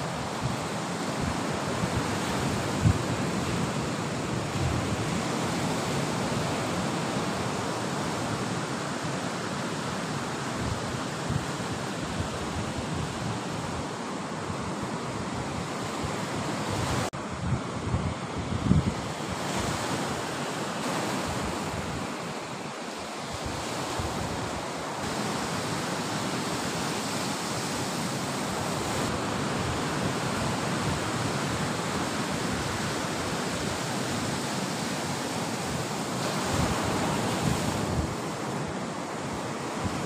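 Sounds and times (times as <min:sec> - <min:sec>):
wind on microphone: 0:00.0 - 0:08.7, 0:10.4 - 0:40.0
sea surf washing onto shore: 0:00.0 - 0:40.0.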